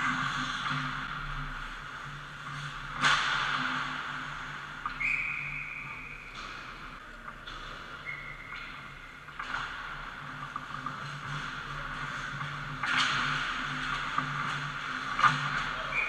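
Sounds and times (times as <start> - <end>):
skates scraping on ice: 0.0 - 16.0.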